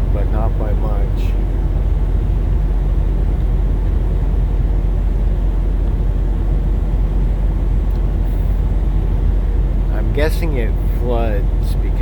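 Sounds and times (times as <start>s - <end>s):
vehicle interior road rumble: 0.0s - 12.0s.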